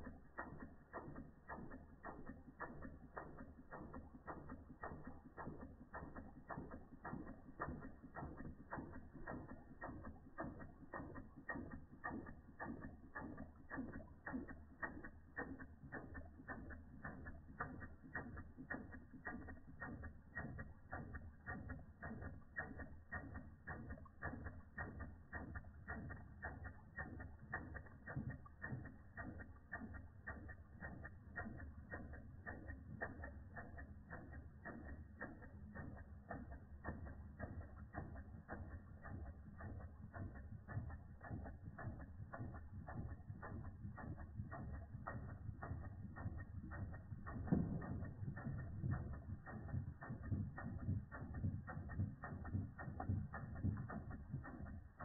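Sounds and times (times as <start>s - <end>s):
toy steam engine clicking: 0.0s - 55.0s.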